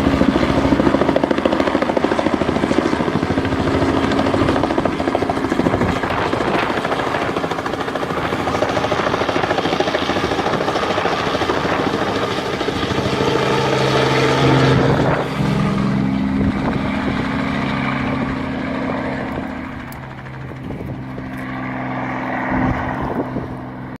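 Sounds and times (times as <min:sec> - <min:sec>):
helicopter engine hum: 0:00.0 - 0:24.0
helicopter rotor chopping: 0:00.0 - 0:24.0.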